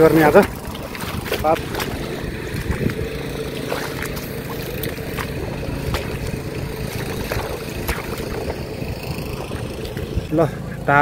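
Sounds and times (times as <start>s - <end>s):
small tiller engine running: 0.0s - 11.0s.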